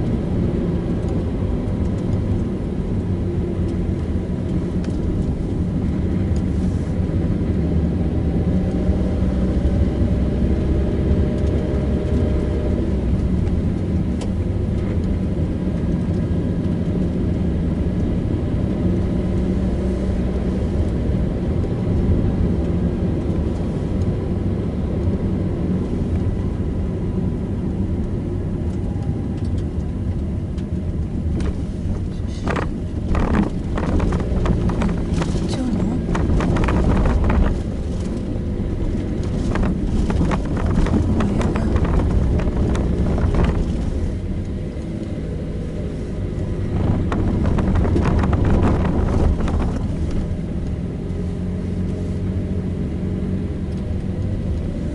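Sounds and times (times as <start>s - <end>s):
car engine and tyre rumble: 0.0s - 54.9s.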